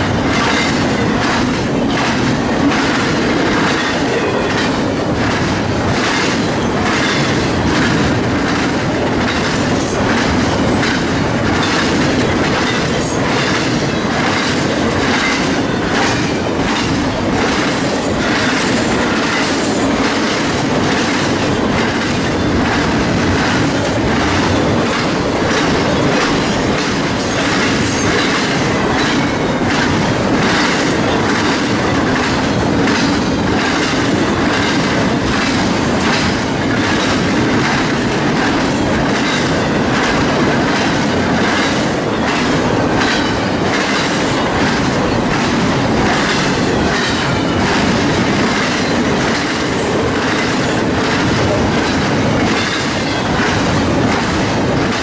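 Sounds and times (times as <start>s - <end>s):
clickety-clack of wheel sets: 0.0s - 55.0s
freight train wheels on rail: 0.0s - 55.0s.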